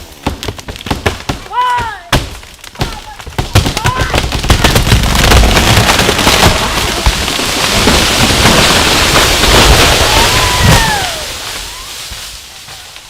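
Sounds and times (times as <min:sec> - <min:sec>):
heavy thuds of falling tree: 0:00.0 - 0:13.0
wood and branches cracking: 0:00.0 - 0:13.0.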